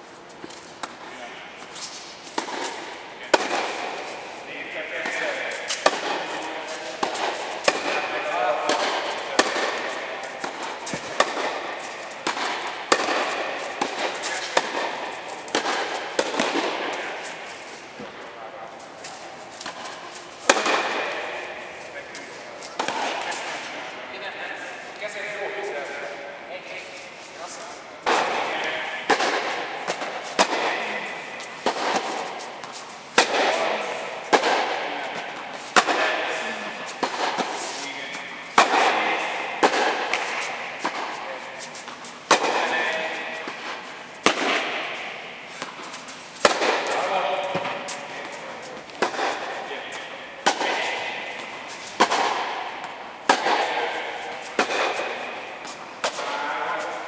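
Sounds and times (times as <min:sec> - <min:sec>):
steady background hiss: 0:00.0 - 0:57.0
tennis ball bouncing on court: 0:00.4 - 0:18.3, 0:19.0 - 0:24.0, 0:28.0 - 0:56.4
tennis ball struck with racket: 0:00.4 - 0:26.3, 0:28.0 - 0:57.0.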